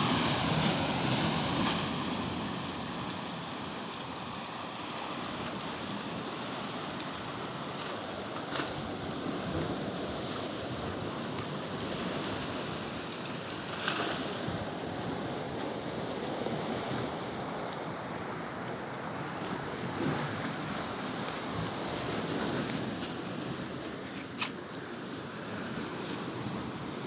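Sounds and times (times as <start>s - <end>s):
waves on rocky shore: 0.0s - 27.0s.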